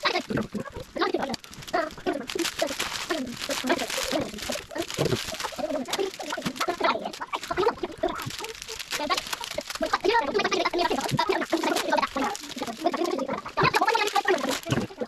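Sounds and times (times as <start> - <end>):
card packs torn open: 0.0 - 15.0
sped up chirpy voices: 0.0 - 15.0.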